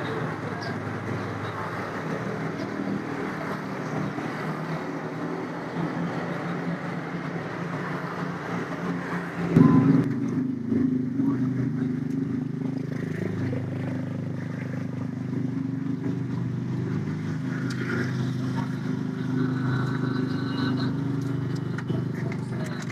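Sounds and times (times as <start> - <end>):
engine running low hum: 0.0 - 22.9.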